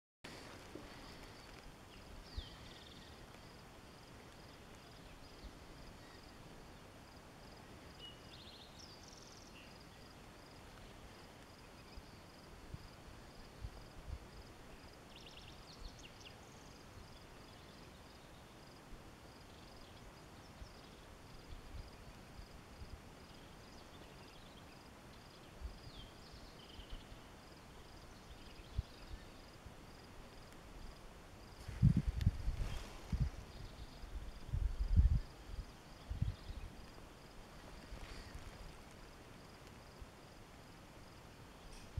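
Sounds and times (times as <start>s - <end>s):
steady hiss: 0.3s - 41.9s
insect chirping: 0.4s - 41.9s.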